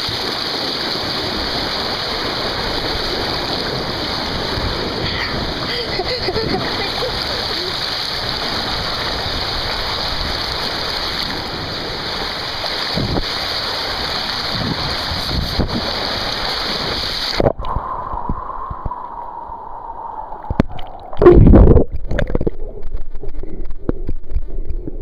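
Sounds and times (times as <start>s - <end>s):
pool water churning with bubbles: 0.0s - 25.0s.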